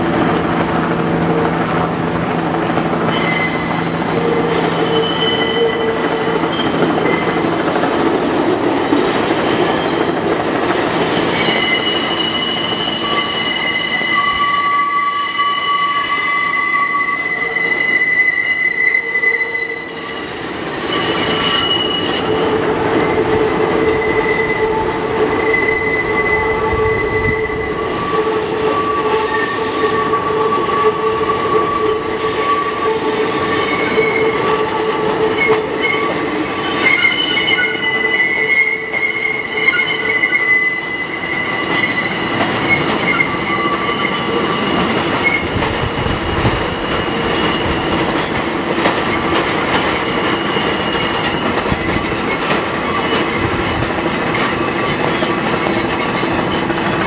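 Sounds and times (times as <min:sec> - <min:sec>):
subway cars rumbling: 0:00.0 - 0:57.0
steel wheels squealing: 0:03.1 - 0:57.0.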